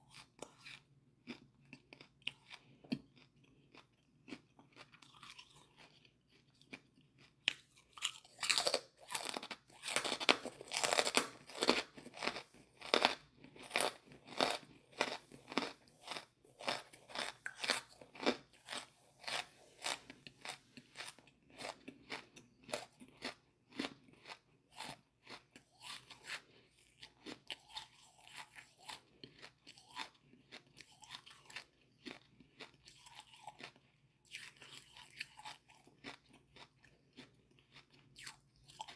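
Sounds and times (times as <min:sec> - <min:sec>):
crisp chewing crunches: 0:00.1 - 0:38.9.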